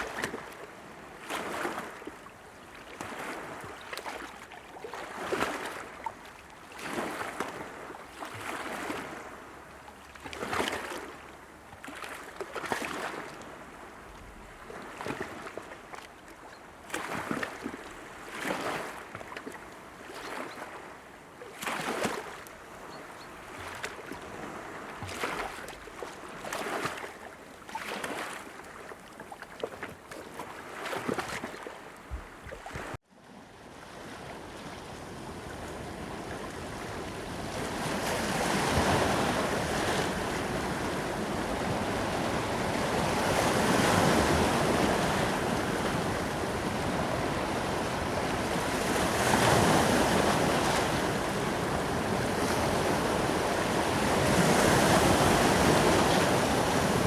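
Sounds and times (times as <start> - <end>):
ocean waves breaking: 0.0 - 2.2, 2.8 - 14.0, 16.9 - 33.0, 33.6 - 57.0
water lapping and splashing: 0.0 - 57.0.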